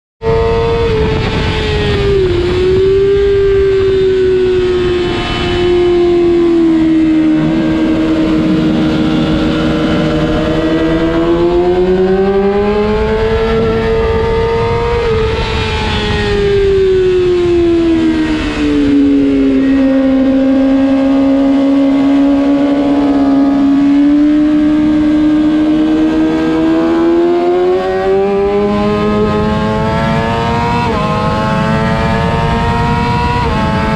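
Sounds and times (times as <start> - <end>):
motorcycle engine revving high: 0.2 - 33.9.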